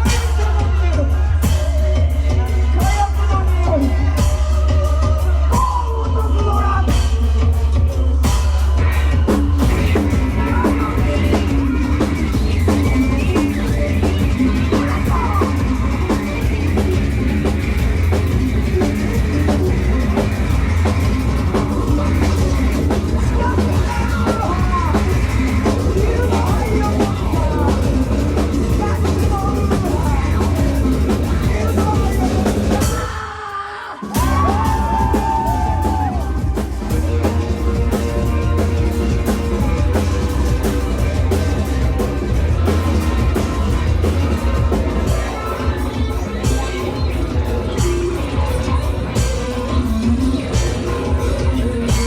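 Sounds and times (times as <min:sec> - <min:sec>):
drum kit beat: 0:00.0 - 0:33.3, 0:34.0 - 0:52.0
live rock band playing: 0:00.0 - 0:52.0.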